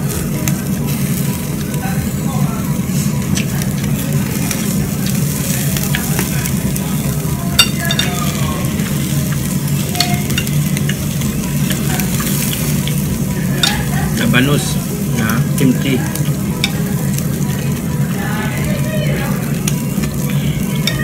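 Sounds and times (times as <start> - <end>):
meat sizzling on grill: 0.0 - 21.0
steady low hum: 0.0 - 21.0.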